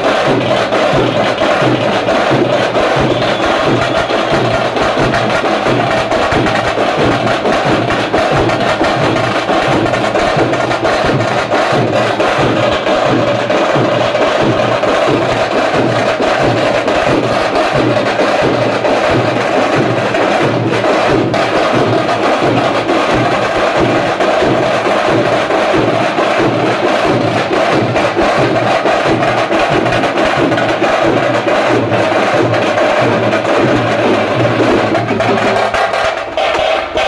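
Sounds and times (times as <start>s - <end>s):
frame and barrel drums beating: 0.0s - 37.0s.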